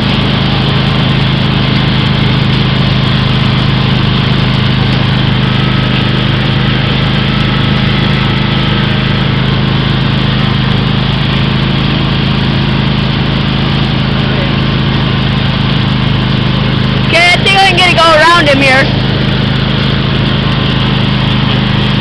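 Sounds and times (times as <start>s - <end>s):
riding lawn mower engine: 0.0s - 22.0s.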